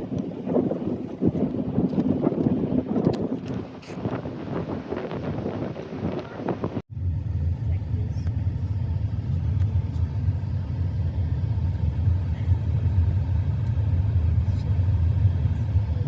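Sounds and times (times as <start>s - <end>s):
vehicle road rumble: 0.0s - 16.0s.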